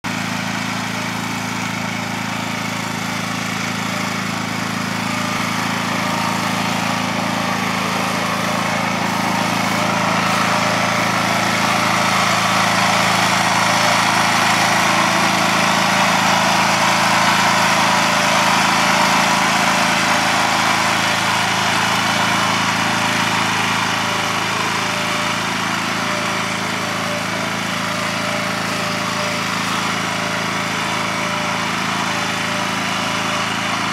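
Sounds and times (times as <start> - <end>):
small gasoline engine running: 0.0 - 33.9
harsh cutting noise: 2.8 - 33.9.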